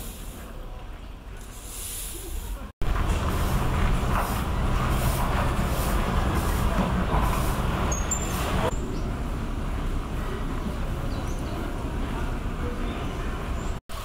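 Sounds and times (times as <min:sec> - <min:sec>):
low outdoor rumble: 0:02.4 - 0:14.0.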